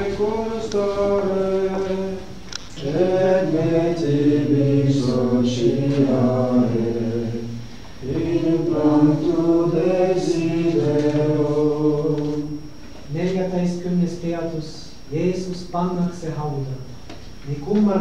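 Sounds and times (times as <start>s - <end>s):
congregation singing a hymn: 0.0s - 14.6s.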